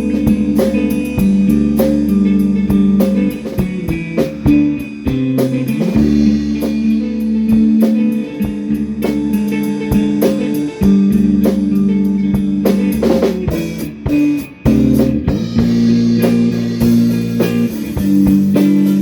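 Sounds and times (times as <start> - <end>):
bass: 0.0 - 19.0
drum kit: 0.0 - 19.0
guitar sustained notes: 0.0 - 19.0.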